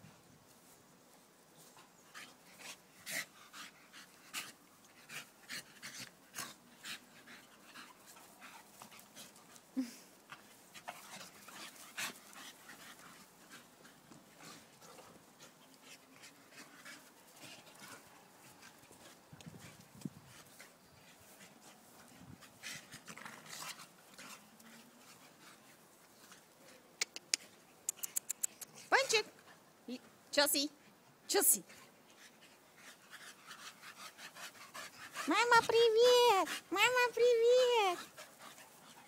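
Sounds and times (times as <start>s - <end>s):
dogs panting and huffing: 1.6s - 39.0s.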